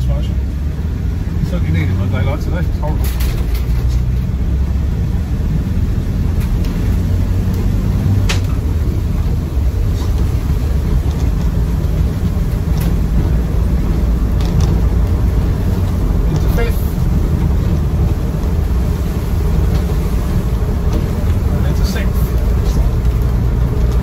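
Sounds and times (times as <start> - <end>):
diesel engine and road rumble: 0.0 - 24.0
sharp clicks and light knocks: 2.6 - 4.4, 6.3 - 24.0.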